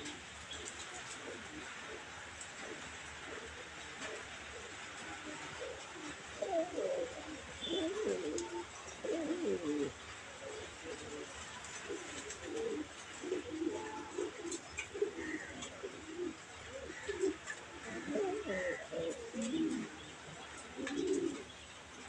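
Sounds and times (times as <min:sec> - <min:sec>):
pigeon cooing: 0:00.0 - 0:21.5.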